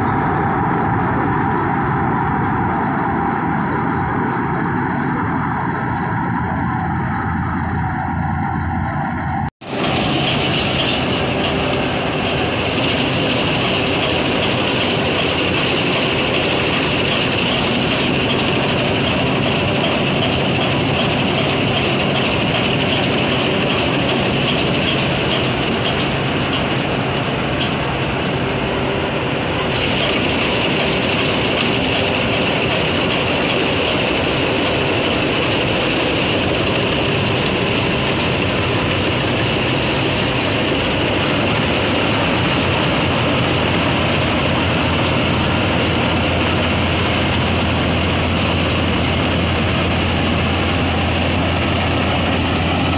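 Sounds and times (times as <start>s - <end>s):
combine harvester running: 0.0s - 52.9s
high machine whine: 0.0s - 52.9s.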